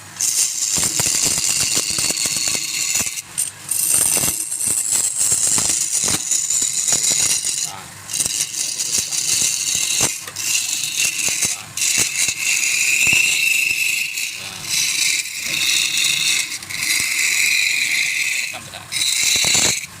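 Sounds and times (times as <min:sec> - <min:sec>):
lathe tool scraping wood: 0:00.0 - 0:20.0.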